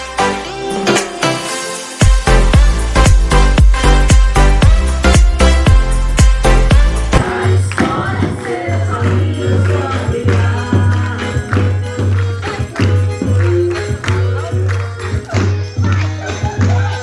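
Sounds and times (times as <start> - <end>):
music with steady beat and pulsing bass: 0.0 - 17.0.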